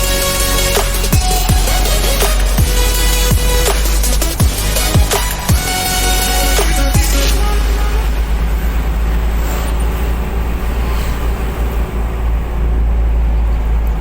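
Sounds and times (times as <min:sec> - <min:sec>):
heavy diesel engine rumbling: 0:00.0 - 0:14.0.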